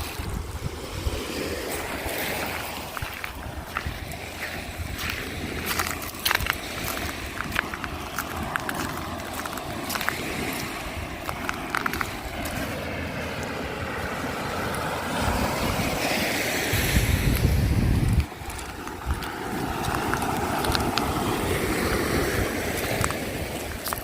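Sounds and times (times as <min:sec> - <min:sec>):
surf washing on beach: 0:00.0 - 0:24.0
wind buffeting microphone: 0:00.0 - 0:24.0.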